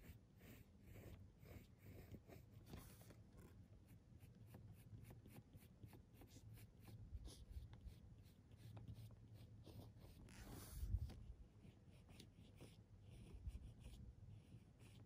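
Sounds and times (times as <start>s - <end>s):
pencil scratching on paper: 0.0s - 15.0s.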